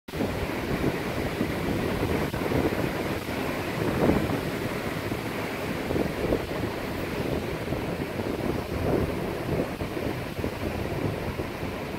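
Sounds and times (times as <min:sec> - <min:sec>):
surf breaking over rocks: 0:00.1 - 0:11.9
wind buffeting microphone: 0:00.1 - 0:11.9.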